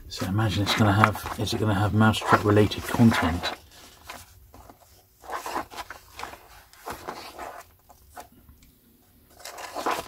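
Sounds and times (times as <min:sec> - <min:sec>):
book pages turning: 0:00.0 - 0:10.0.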